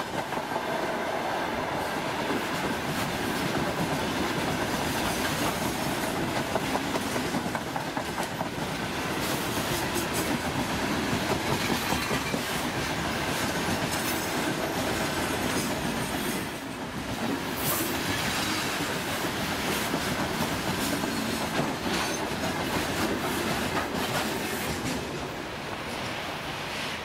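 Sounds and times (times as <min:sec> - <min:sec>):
train wheels rumbling on rails: 0:00.0 - 0:27.0
wheels clacking over rail joints: 0:02.4 - 0:25.4.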